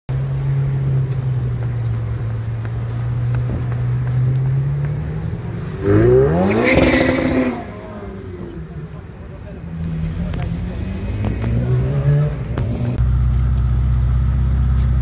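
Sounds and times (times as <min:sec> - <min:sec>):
car engine idling and revving: 0:00.1 - 0:15.0.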